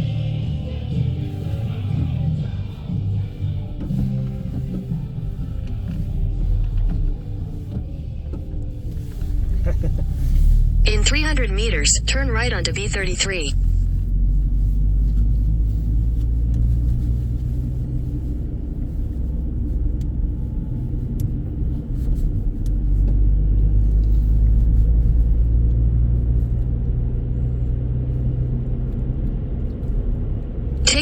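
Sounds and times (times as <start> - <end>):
car road and engine rumble: 0.0 - 10.8, 13.5 - 31.0.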